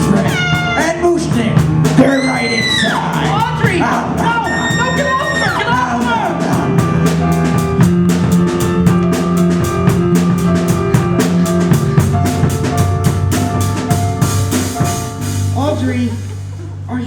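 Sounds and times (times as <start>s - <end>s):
bass notes: 0.0s - 17.0s
drum kit beat: 0.0s - 17.0s
keyboard notes: 0.0s - 17.0s.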